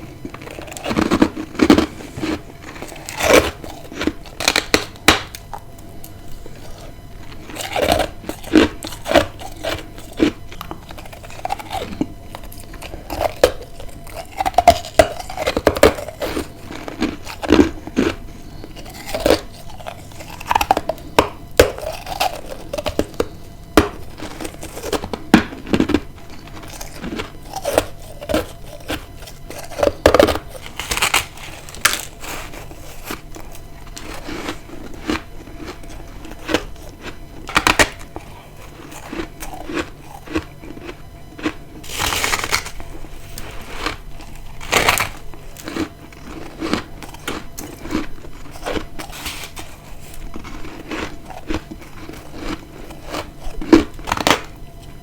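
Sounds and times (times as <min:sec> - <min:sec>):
crunching bites into ice: 0:00.4 - 0:54.6.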